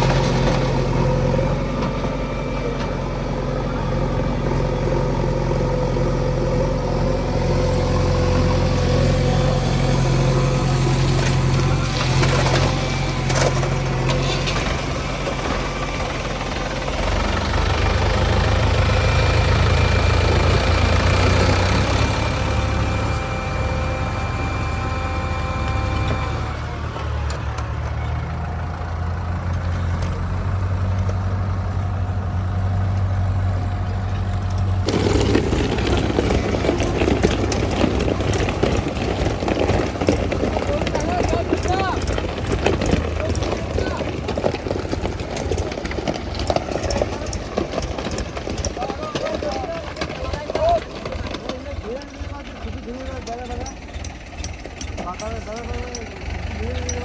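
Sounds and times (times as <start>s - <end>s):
clatter and rattling: 0.0s - 23.4s, 25.6s - 57.0s
diesel engine running: 0.0s - 57.0s.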